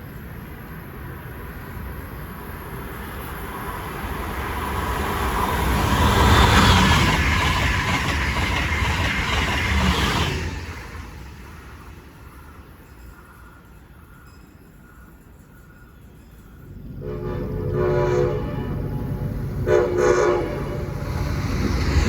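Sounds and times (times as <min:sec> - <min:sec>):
train wheels rushing on rails: 0:00.2 - 0:22.0.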